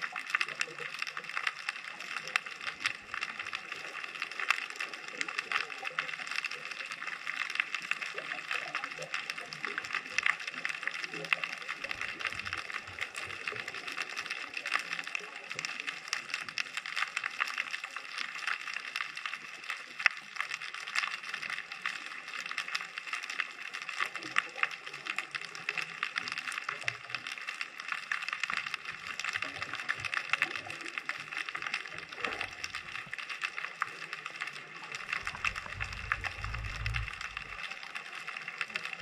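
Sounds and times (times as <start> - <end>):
underwater crackle of small clicks: 0.0 - 39.0.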